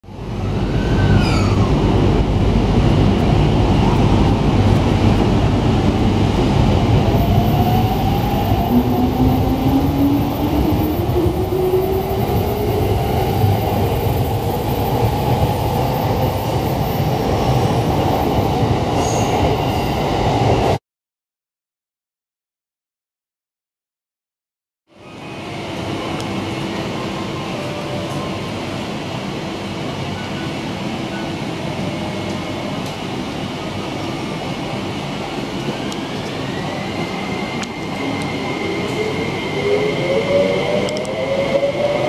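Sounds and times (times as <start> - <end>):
train rumbling over rails: 0.0 - 20.8, 25.0 - 42.0.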